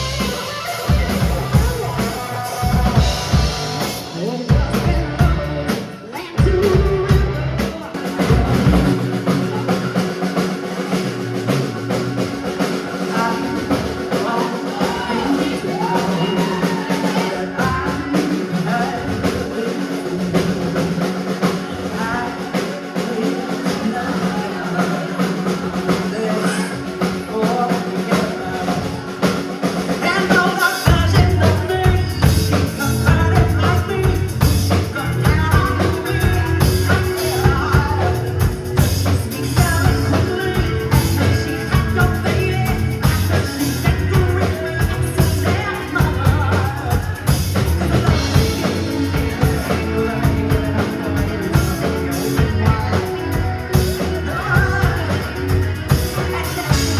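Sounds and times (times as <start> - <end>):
person singing: 0.0 - 56.9
rock band playing: 0.0 - 56.9.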